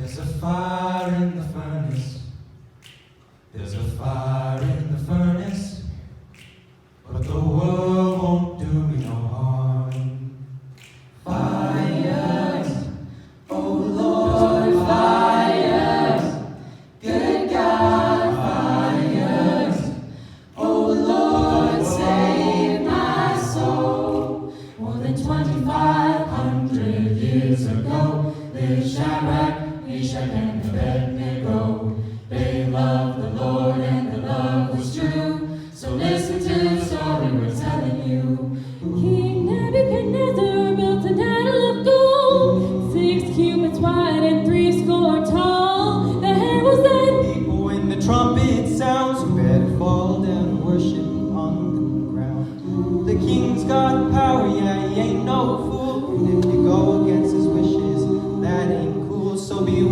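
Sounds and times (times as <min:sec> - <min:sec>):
a cappella group singing harmony: 0:00.0 - 0:59.9.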